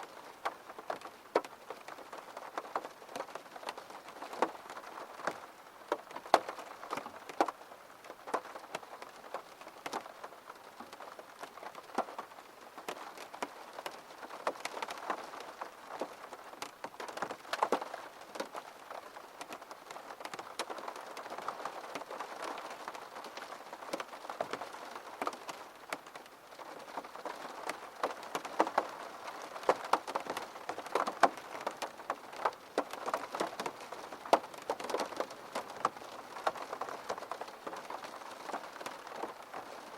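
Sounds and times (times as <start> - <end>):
gentle rain with dripping taps: 0.0 - 39.9.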